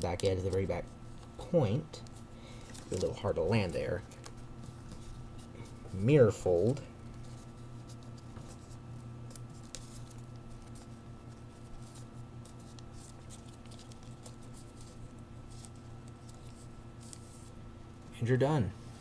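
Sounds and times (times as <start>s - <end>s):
steady low hum: 0.0s - 19.0s
paper rustling and crackling: 2.0s - 17.6s.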